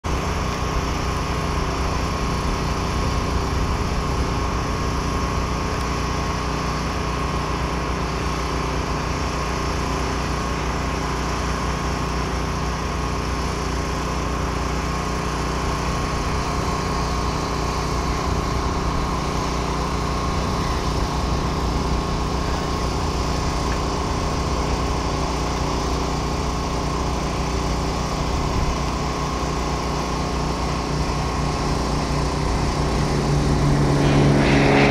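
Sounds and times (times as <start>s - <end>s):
engine running: 0.0s - 34.9s
steady engine whine: 0.0s - 34.9s.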